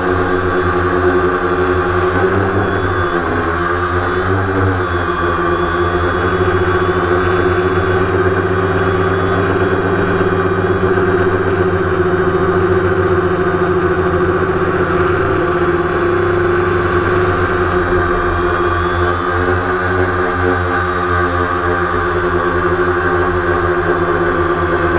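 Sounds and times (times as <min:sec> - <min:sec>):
drone propellers humming: 0:00.0 - 0:24.9.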